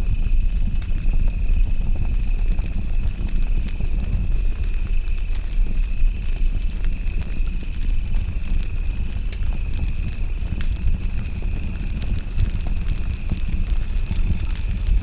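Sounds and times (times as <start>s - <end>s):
insect thin steady tone: 0.0s - 15.0s
campfire crackling and popping: 2.4s - 15.0s.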